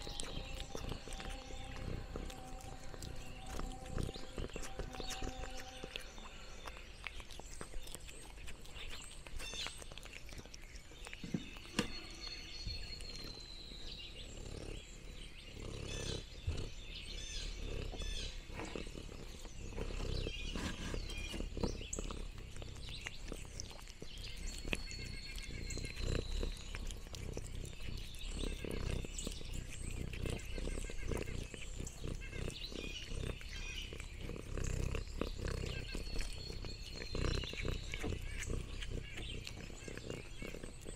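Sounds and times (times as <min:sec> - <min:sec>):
cat chewing and lip-smacking: 0:00.0 - 0:40.9.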